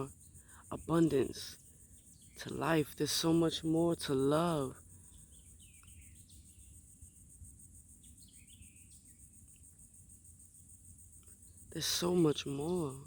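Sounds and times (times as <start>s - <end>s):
soft bird chirps: 0.0s - 2.9s, 4.0s - 13.0s
insects trilling: 0.0s - 13.0s.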